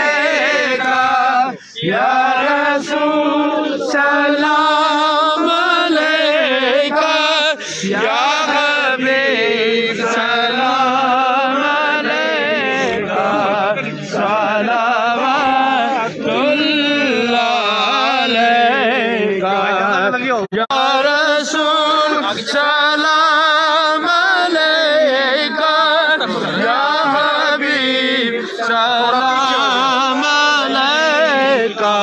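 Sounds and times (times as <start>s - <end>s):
person chanting devotional recitation: 0.0s - 32.0s.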